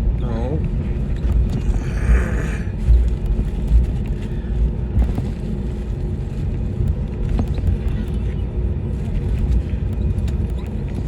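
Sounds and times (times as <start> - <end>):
low rumble of idling jet engines: 0.0 - 11.0.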